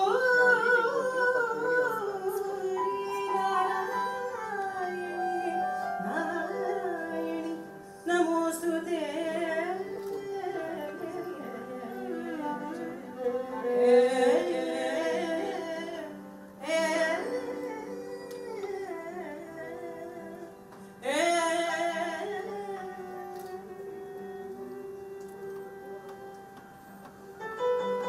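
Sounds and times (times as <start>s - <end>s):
woman singing: 0.0s - 26.4s
violin: 0.0s - 28.0s.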